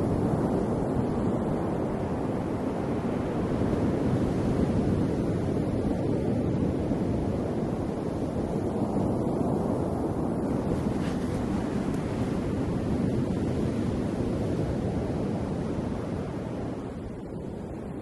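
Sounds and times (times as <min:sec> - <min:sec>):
ocean surf rushing: 0:00.0 - 0:18.0.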